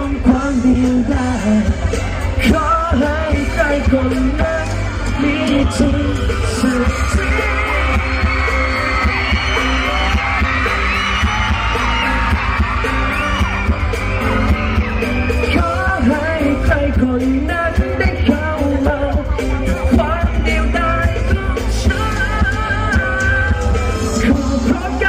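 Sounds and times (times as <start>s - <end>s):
crowd screaming and singing along: 0.0s - 25.0s
heavy bass: 0.0s - 25.0s
live band playing pop music: 0.0s - 25.0s
person singing: 0.0s - 25.0s.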